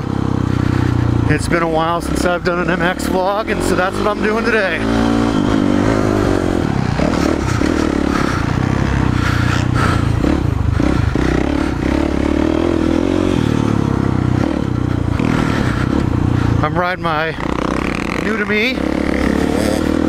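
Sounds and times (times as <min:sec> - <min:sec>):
motocross engine revving: 0:00.0 - 0:20.0.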